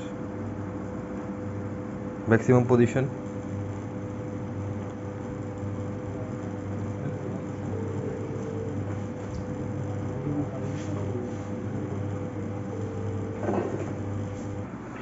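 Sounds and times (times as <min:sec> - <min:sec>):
treadmill incline motor humming: 0:00.0 - 0:15.0.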